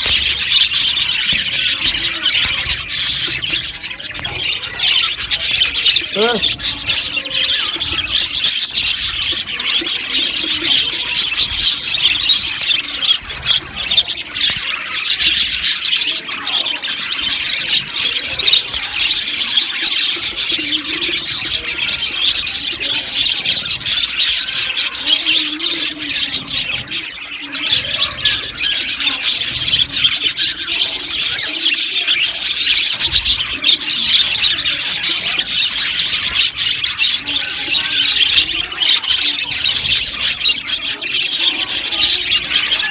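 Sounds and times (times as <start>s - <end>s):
flock of budgerigars chirping: 0.0s - 42.9s.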